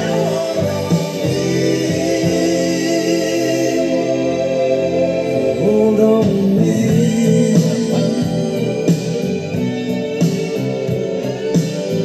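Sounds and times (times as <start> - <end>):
song with singing over held chords: 0.0 - 12.0.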